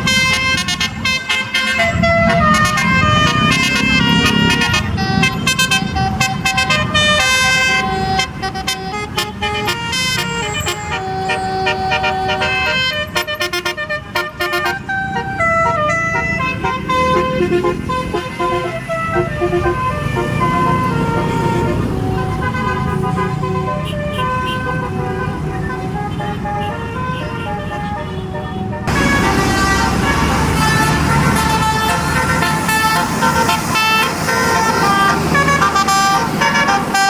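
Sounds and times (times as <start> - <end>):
bus engine rumble: 0.0 - 37.0
multi-tone bus horn tune: 0.0 - 37.0.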